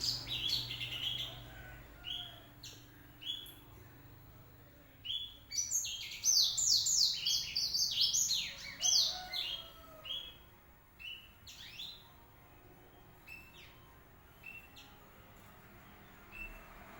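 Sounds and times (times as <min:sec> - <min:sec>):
canary singing: 0:00.0 - 0:04.2, 0:05.0 - 0:16.9.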